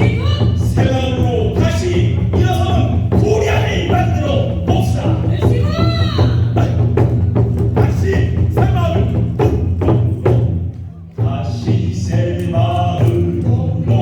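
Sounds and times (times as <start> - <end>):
drums struck in steady rhythm: 0.0 - 14.0.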